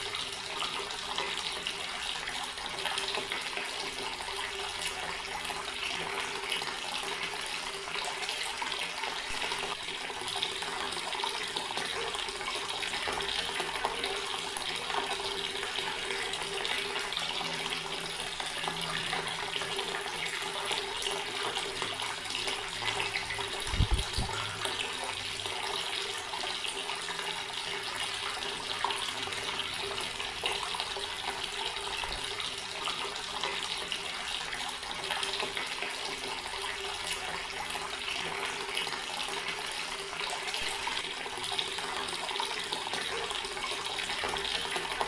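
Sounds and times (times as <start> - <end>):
water running from tap: 0.0 - 45.0.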